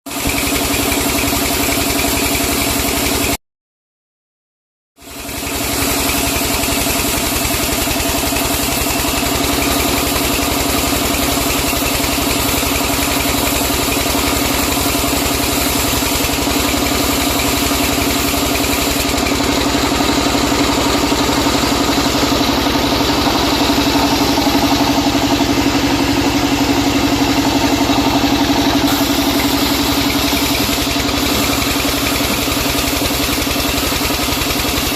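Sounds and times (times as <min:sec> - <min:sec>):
sawmill machinery droning: 0:00.1 - 0:03.4, 0:05.0 - 0:34.9.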